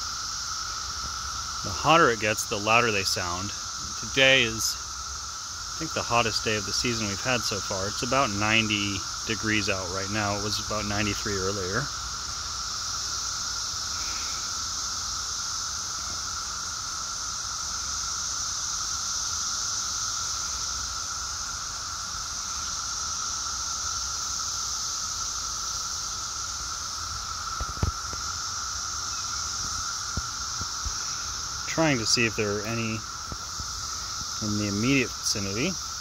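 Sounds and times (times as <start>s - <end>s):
cicadas chorus: 0.0s - 36.0s
low steady whine: 0.0s - 36.0s.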